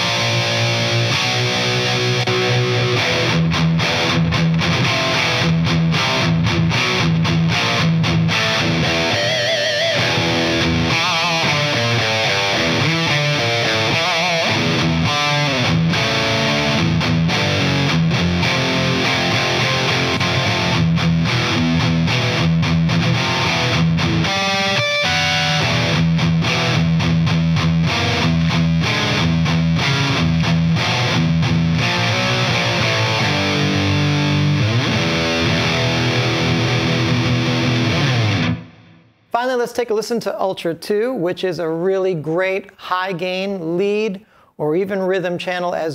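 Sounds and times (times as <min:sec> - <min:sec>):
distorted electric guitar riffs: 0:00.0 - 0:39.6.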